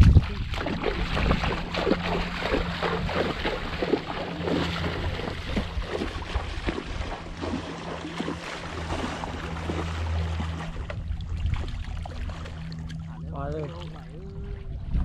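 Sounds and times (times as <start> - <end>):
muddy water splashing: 0.0 - 15.0
wind rumbling on microphone: 0.0 - 15.0.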